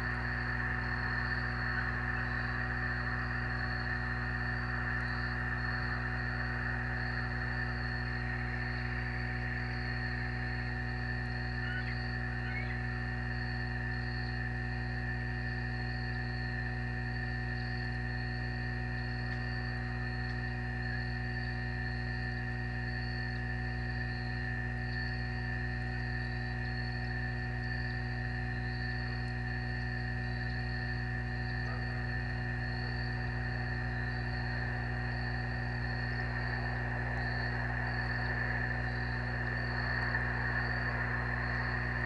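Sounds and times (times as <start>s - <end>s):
faint chirps: 0.0s - 25.4s, 27.8s - 42.0s
electrical hum: 0.0s - 42.0s
high pulsing insect trill: 0.0s - 42.0s.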